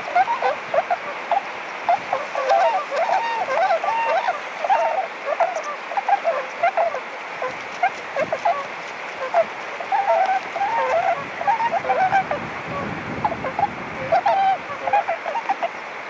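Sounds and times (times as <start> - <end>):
distant waterfowl chorus: 0.0 - 16.0
waterfowl honking: 0.0 - 16.0.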